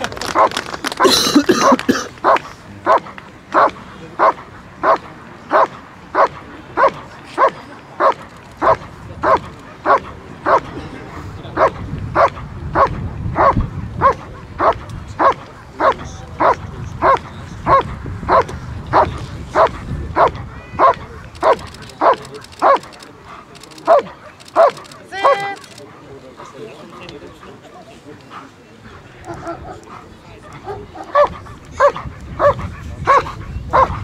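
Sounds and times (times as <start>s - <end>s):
dog barking steadily: 0.2s - 10.8s, 11.6s - 34.0s.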